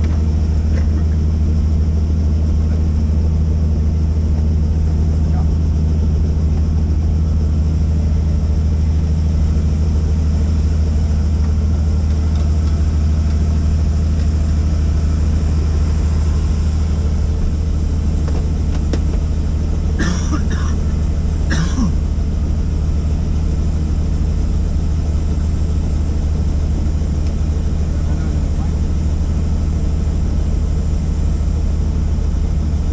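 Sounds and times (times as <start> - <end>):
helicopter engine and rotor: 0.0 - 32.9.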